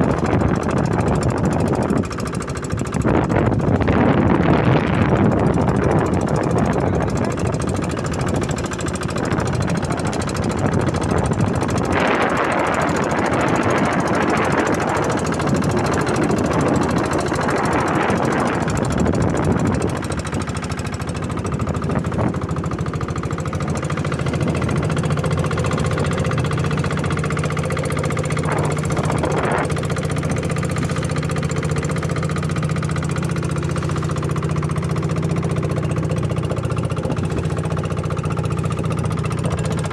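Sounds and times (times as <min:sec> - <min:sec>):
boat engine knocking: 0:00.0 - 0:39.9.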